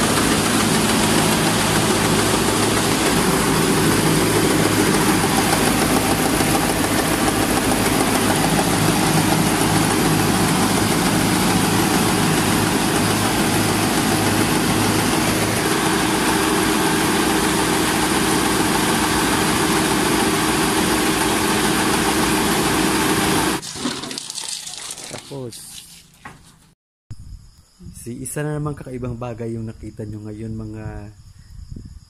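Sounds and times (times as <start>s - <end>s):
rice mill machine running: 0.0s - 25.7s.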